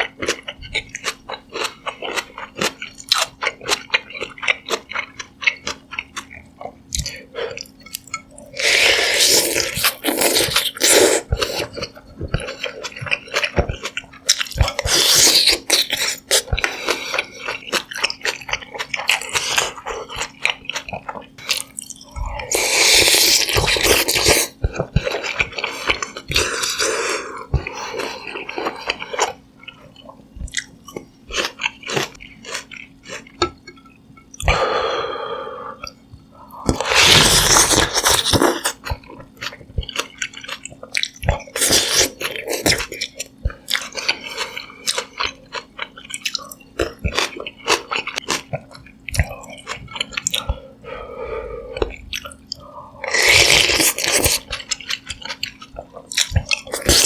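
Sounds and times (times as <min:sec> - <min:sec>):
chewing and wet mouth sounds: 0:00.0 - 0:34.6, 0:35.8 - 0:57.0.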